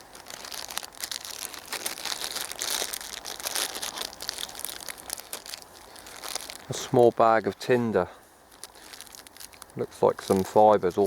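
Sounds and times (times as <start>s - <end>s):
plastic bag crinkling: 0.0s - 7.8s, 8.5s - 11.0s.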